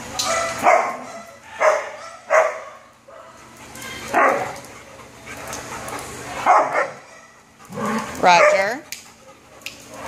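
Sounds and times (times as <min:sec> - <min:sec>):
dogs barking: 0:00.2 - 0:10.0.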